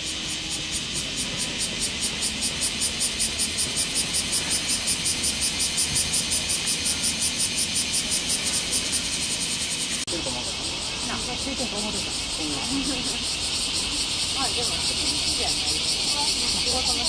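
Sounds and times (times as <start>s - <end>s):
cicadas pulsing chorus: 0.0s - 17.0s
steady insect hiss: 0.0s - 17.0s.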